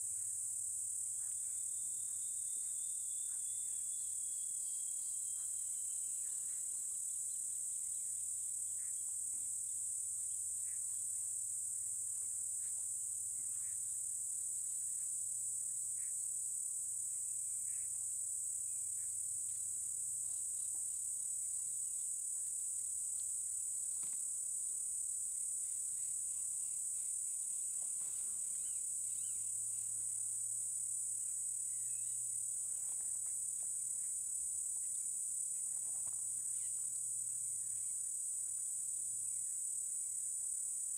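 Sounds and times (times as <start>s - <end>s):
insects droning chorus: 0.0s - 40.9s.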